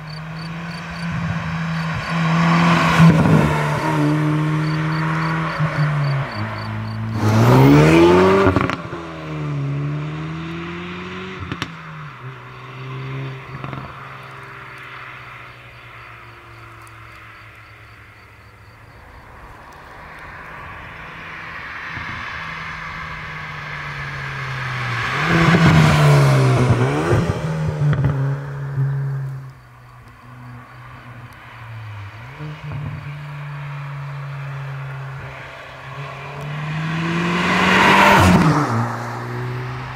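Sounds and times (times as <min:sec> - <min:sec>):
car passing by: 0:00.0 - 0:39.9
car engine accelerating hard: 0:00.1 - 0:15.5, 0:20.2 - 0:39.9.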